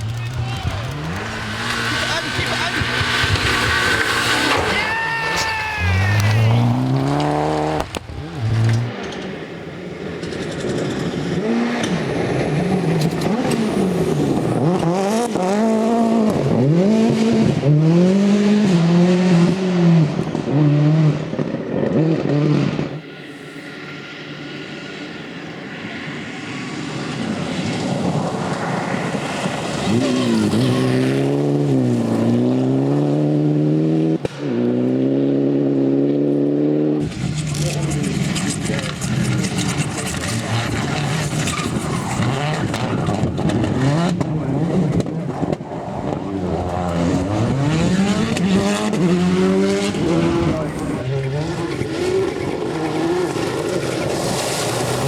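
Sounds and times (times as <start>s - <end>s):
approaching car engine: 0.0s - 55.0s
rally car engines revving: 0.0s - 55.0s.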